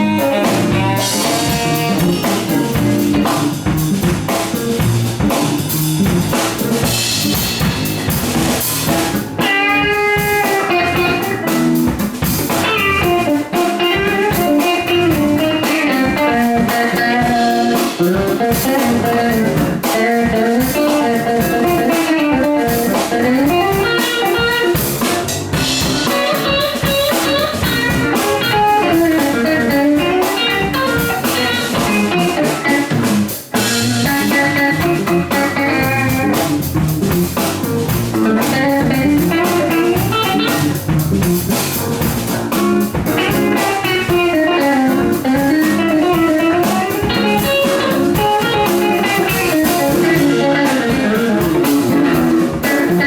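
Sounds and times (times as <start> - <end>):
drum kit: 0.0 - 53.0
guitar lines: 0.0 - 53.0.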